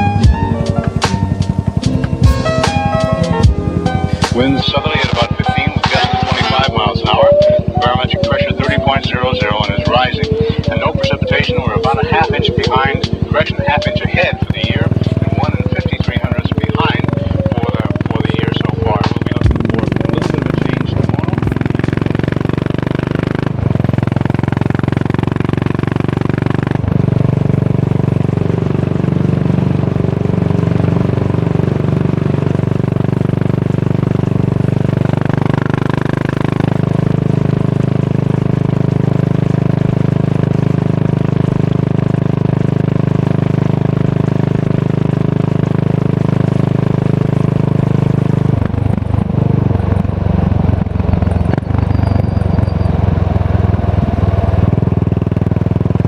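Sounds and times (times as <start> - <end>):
motorcycle engine exhaust note: 0.0 - 56.0.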